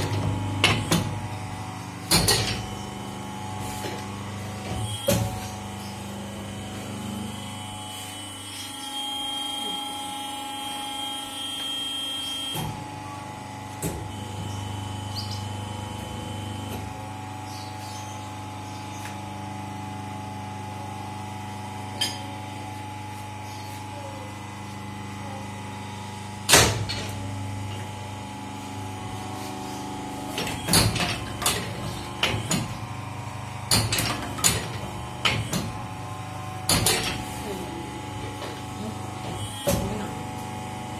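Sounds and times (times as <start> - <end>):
machine motor hum: 0.0 - 40.9.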